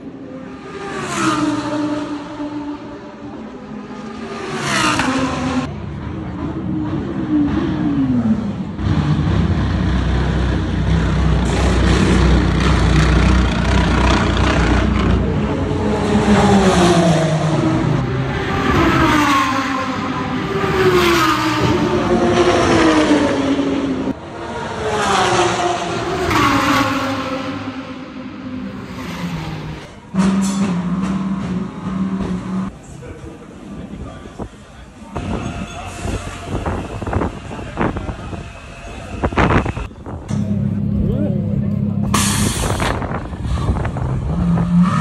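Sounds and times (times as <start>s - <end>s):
race cars passing: 0.0s - 45.0s.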